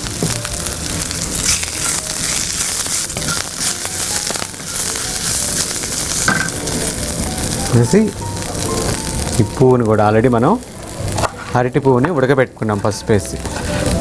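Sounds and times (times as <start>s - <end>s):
leaves sizzling in hot oil: 0.0s - 14.0s.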